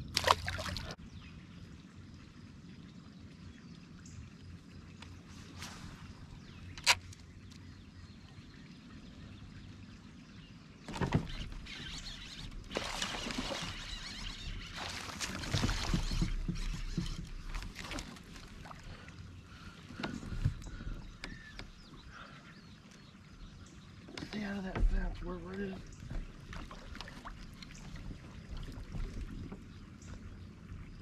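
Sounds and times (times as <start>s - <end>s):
water sloshing and splashing: 0.0s - 1.0s, 1.6s - 31.0s.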